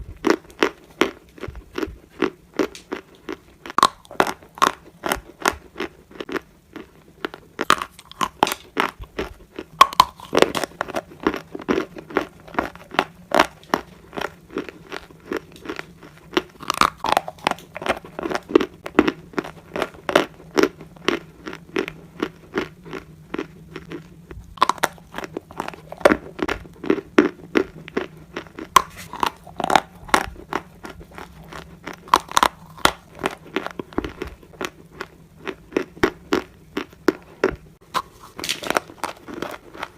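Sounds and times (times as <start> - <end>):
chewing clay crunches: 0.0 - 39.9.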